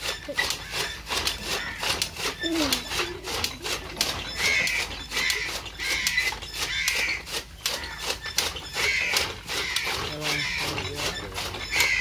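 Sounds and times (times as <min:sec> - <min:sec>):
chaff cutter blades chopping: 0:00.0 - 0:12.0
harsh squawking: 0:00.0 - 0:12.0.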